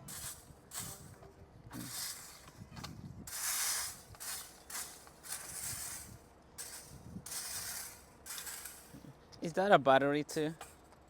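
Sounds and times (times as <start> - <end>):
sweeping debris on pavement: 0.0 - 2.6, 3.2 - 9.6.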